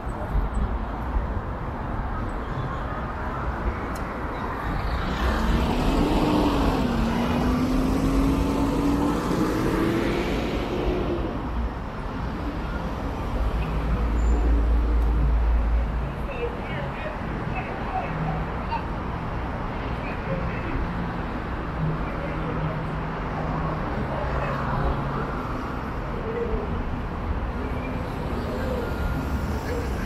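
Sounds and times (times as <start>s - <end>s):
low traffic rumble: 0.0s - 30.0s.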